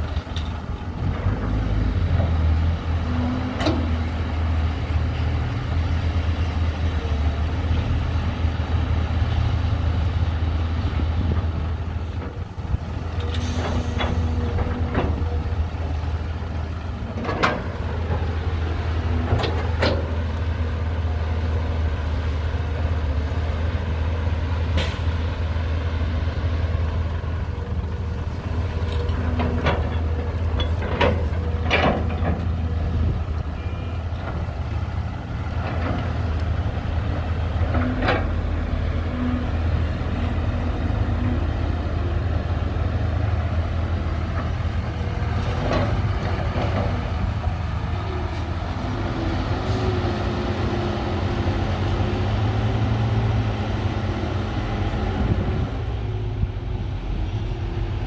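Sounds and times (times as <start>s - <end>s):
diesel machinery droning: 0.0s - 58.0s.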